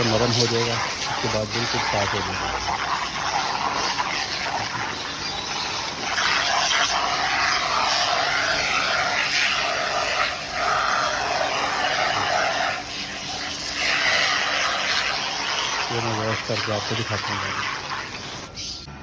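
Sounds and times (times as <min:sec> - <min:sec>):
pressure washer spraying: 0:00.0 - 0:18.7.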